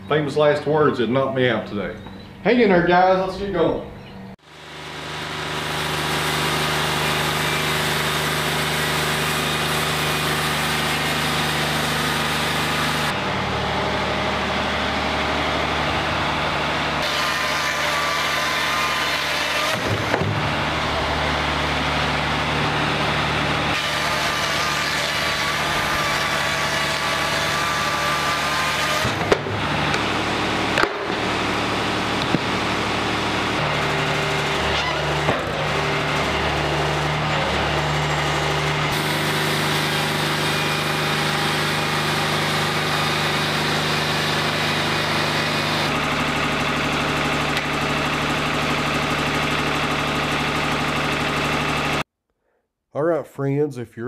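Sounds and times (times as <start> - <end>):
band sawmill running: 4.4 - 52.0.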